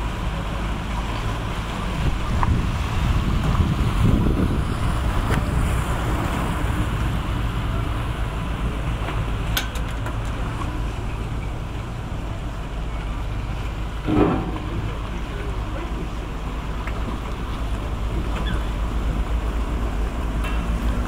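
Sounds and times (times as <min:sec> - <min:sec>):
boat engine droning: 0:00.0 - 0:21.0
rushing water: 0:00.0 - 0:21.0
wind: 0:00.0 - 0:21.0.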